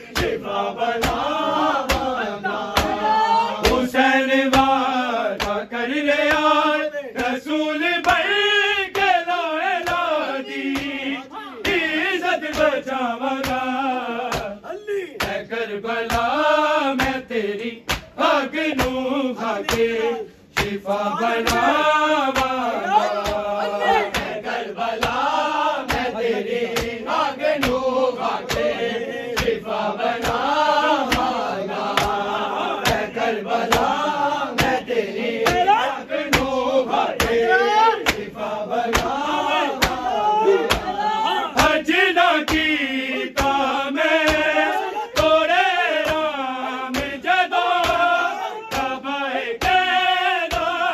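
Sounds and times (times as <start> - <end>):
sharp rhythmic strikes: 0.0 - 6.5, 15.2 - 50.9
men chanting together: 0.0 - 50.9.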